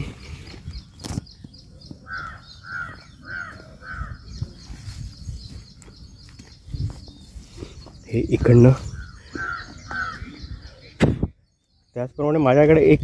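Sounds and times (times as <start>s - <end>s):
bird calling: 0.0s - 12.6s.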